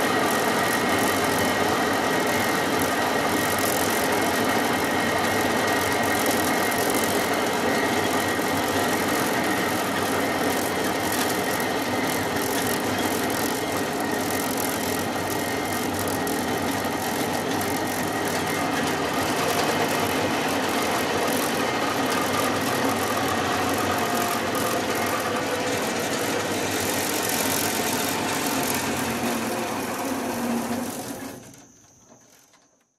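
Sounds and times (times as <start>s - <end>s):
cable car mechanical rumble: 0.0s - 31.5s
thin steady whine: 0.0s - 32.9s.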